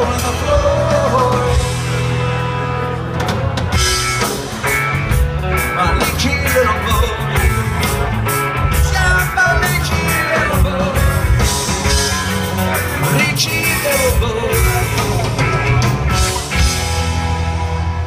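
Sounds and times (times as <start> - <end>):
bass line: 0.0 - 18.0
drums: 0.0 - 18.0
electric guitar: 0.0 - 18.0.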